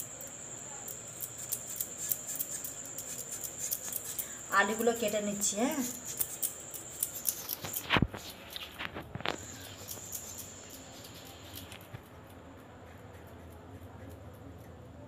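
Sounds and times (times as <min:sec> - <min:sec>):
blade clicking through potato: 0:00.0 - 0:14.8.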